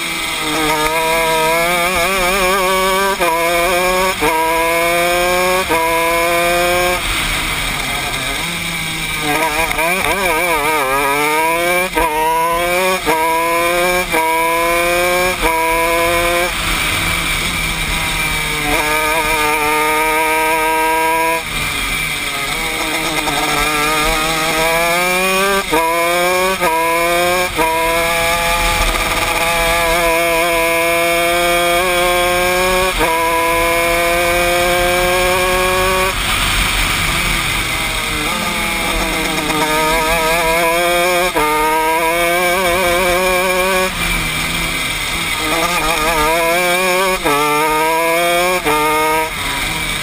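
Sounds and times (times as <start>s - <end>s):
kart engine at racing revs: 0.0s - 50.0s.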